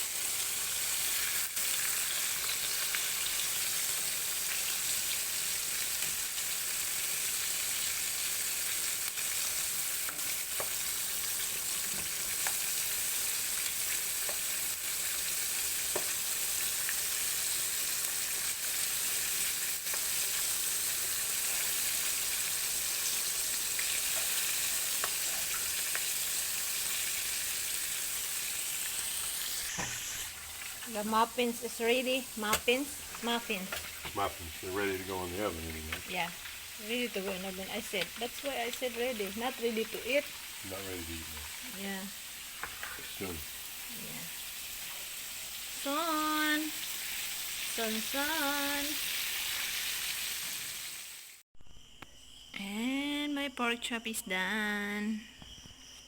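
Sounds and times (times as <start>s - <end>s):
pork chops sizzling in oil: 0.0s - 51.4s.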